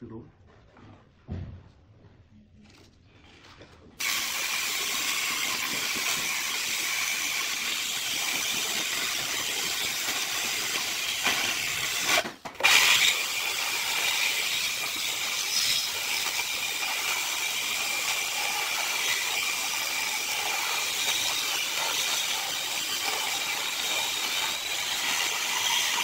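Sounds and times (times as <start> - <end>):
electric drill grinding through tile: 4.0 - 26.0.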